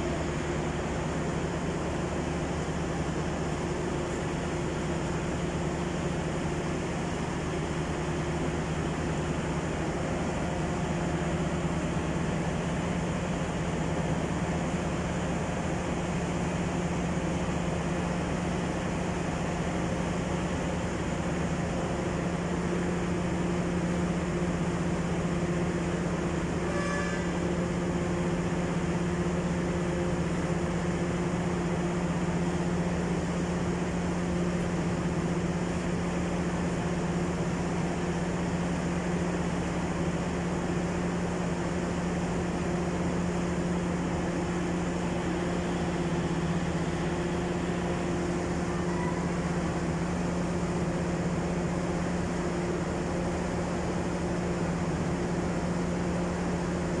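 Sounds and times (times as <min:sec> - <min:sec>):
idle train machine hum: 0:00.0 - 0:57.0.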